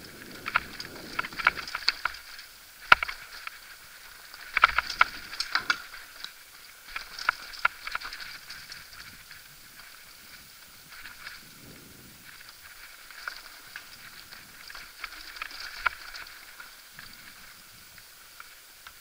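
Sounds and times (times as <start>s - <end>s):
mountain bike rattling over rocks: 0.0s - 19.0s.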